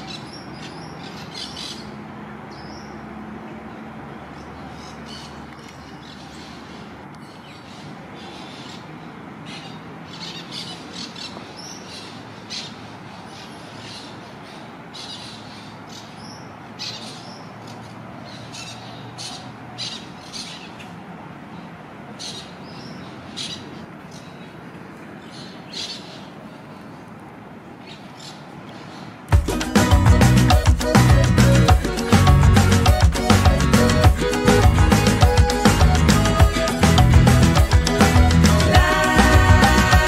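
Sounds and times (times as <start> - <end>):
birds calling: 0.0 - 26.9, 27.8 - 40.0.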